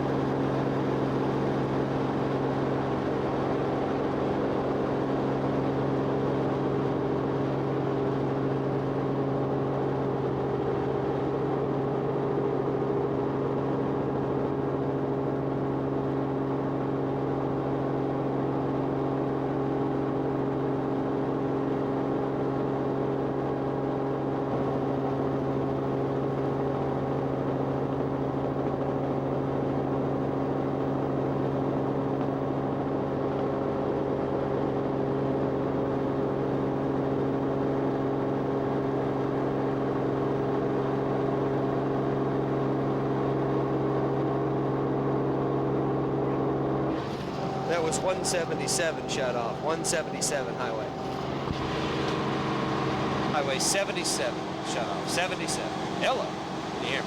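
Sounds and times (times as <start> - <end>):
aircraft engine drone in cabin: 0.0 - 57.0.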